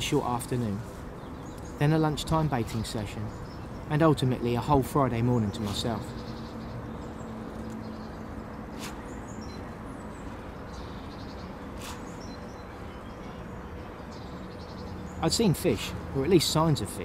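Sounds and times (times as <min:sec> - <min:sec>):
birds chirping faintly: 0:00.0 - 0:17.0
steady low hum: 0:00.0 - 0:17.0.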